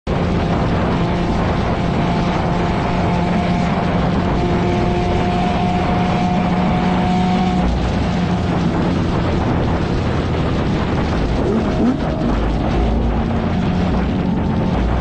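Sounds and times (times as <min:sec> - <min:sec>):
vehicle engine drone: 0:00.0 - 0:15.0
rushing noise: 0:00.1 - 0:15.0.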